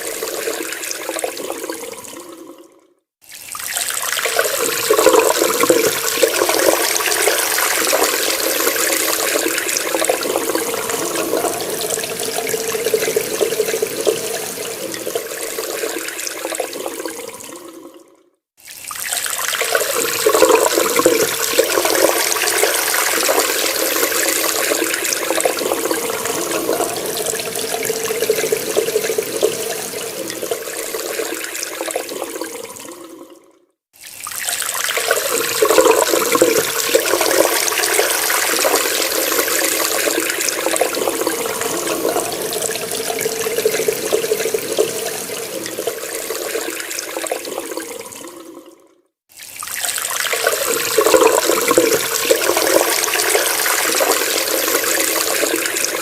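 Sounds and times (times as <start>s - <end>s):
tap water running: 3.2s - 17.9s, 18.6s - 33.2s, 34.0s - 48.7s, 49.3s - 56.0s.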